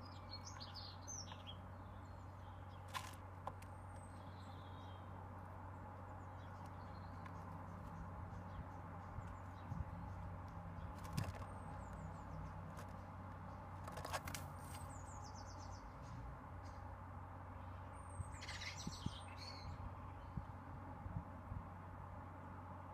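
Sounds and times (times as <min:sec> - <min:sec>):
birds chirping: 0:00.0 - 0:20.8
low background hum: 0:00.0 - 0:22.9.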